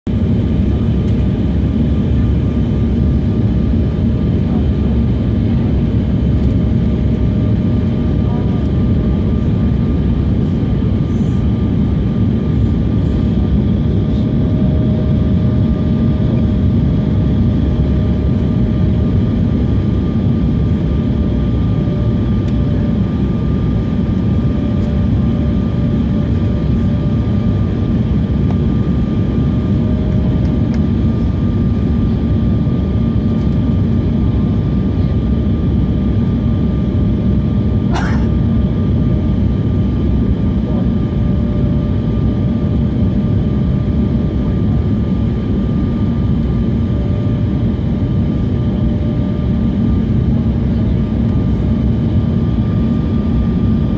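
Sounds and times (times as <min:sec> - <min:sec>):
airliner engine rumble: 0:00.1 - 0:53.9.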